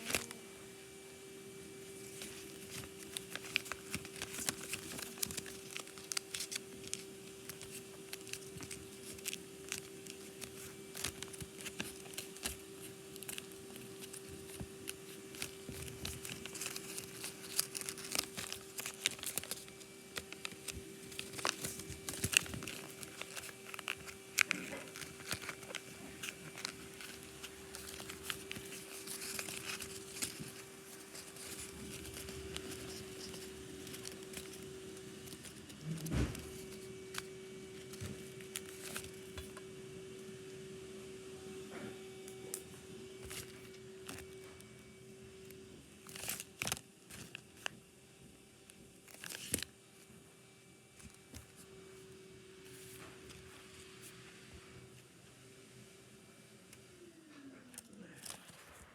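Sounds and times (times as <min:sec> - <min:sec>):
paper folding and crinkling: 0:00.0 - 0:00.4, 0:01.8 - 0:39.6, 0:41.8 - 0:44.9, 0:45.8 - 0:47.8, 0:48.7 - 0:50.1, 0:51.0 - 0:52.0, 0:52.6 - 0:54.2, 0:57.7 - 0:58.9
steady low hum: 0:00.0 - 0:49.1.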